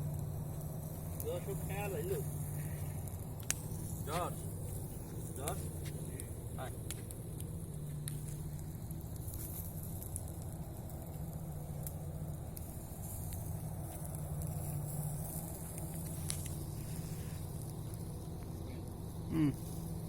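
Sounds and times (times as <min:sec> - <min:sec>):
campfire crackling and popping: 0:00.0 - 0:20.0
low hum: 0:00.0 - 0:20.0.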